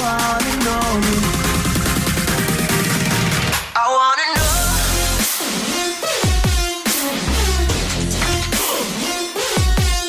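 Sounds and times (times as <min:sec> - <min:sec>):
electronic music with sliding bass: 0:00.0 - 0:10.0.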